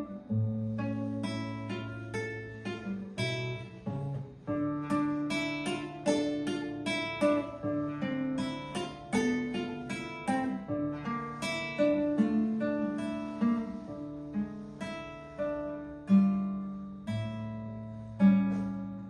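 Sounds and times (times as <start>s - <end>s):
classical guitar piece: 0.0s - 19.0s.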